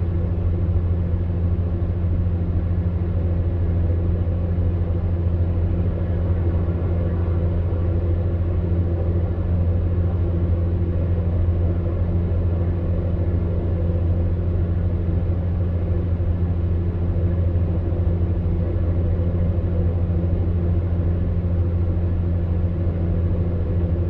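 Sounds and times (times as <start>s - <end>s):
electric fan heater humming: 0.0s - 24.0s.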